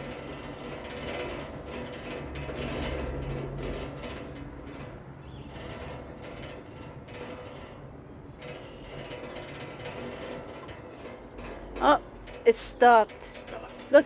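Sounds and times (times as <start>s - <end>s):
ski lift rattling and whirring: 0.0s - 14.0s.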